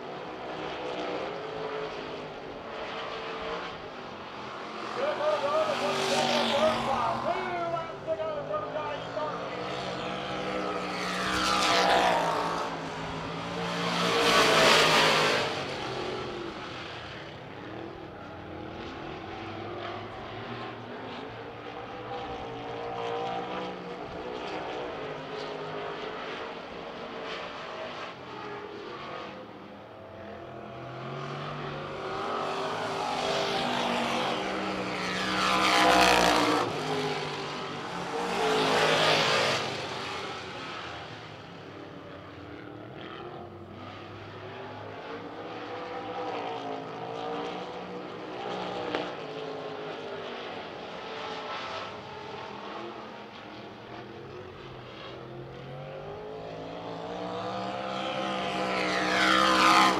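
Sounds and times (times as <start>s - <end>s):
race car engines passing: 0.0s - 59.9s.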